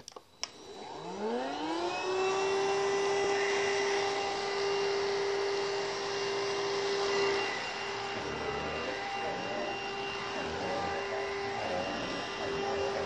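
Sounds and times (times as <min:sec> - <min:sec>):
vacuum cleaner motor whine: 0:00.4 - 0:13.0.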